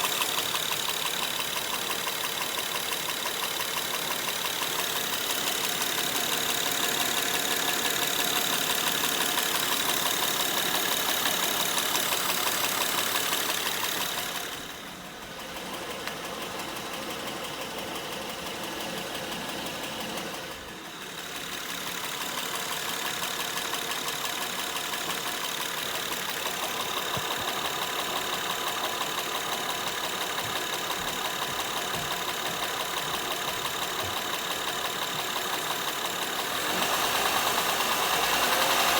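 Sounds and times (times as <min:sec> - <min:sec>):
engine idling with knocking: 0:00.0 - 0:38.9.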